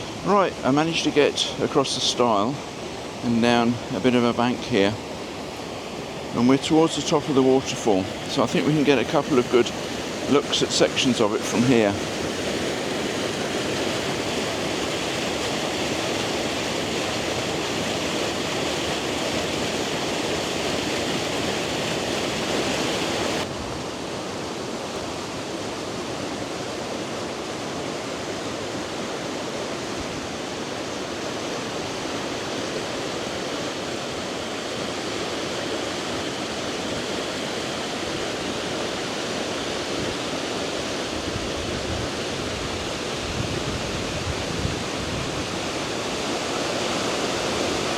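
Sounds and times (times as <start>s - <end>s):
waterfall rushing over rocks: 0.0s - 47.9s.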